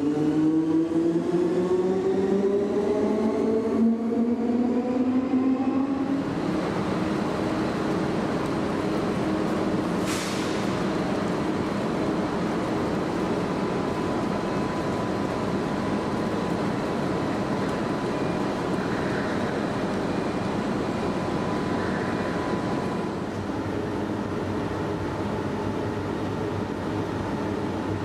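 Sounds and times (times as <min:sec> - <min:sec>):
electric train running hum: 0:00.0 - 0:28.0.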